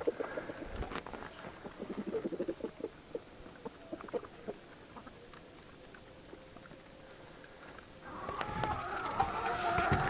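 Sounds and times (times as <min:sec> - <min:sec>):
chickens pecking at feed: 0:00.0 - 0:10.0.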